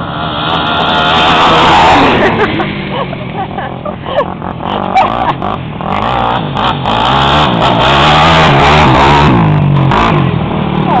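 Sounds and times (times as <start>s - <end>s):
quad engines revving: 0.0s - 11.0s.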